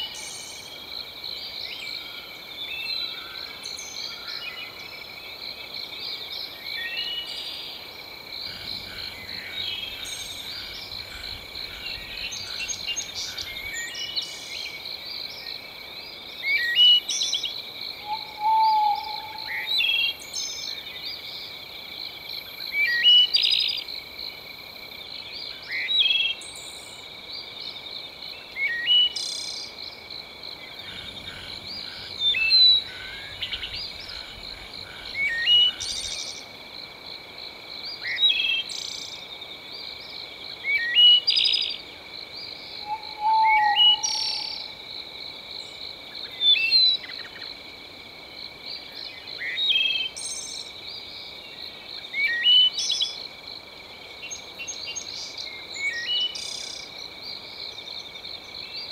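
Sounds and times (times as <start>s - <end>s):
frogs and insects trilling: 0.0s - 58.9s.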